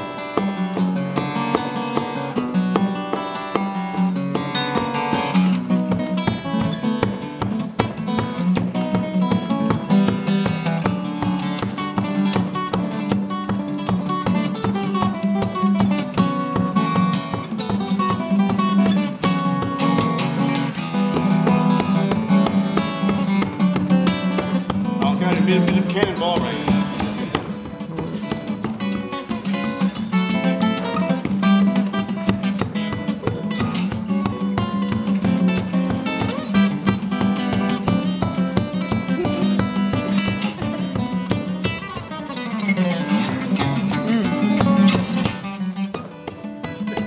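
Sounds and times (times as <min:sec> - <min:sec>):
fingerpicked acoustic guitar: 0:00.0 - 0:47.0.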